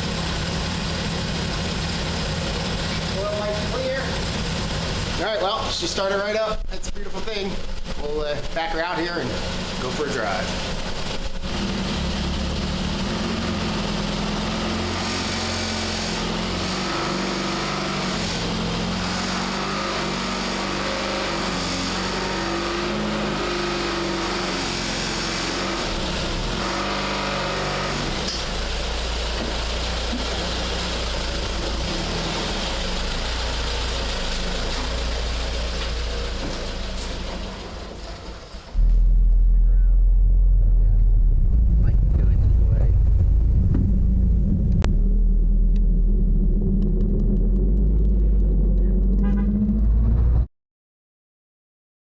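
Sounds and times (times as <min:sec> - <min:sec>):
car engine running: 0:00.0 - 0:50.5.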